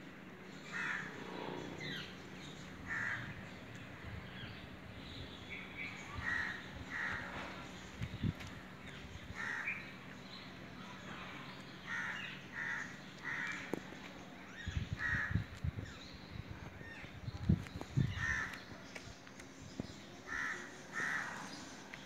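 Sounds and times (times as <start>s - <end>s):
birds calling: 0.3s - 22.0s.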